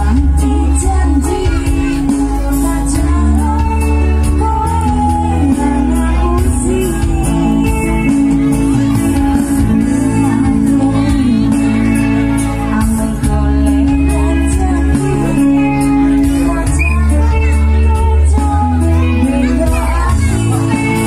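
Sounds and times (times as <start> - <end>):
heavy bass: 0.0 - 21.0
live band music: 0.0 - 21.0
woman singing: 0.0 - 21.0.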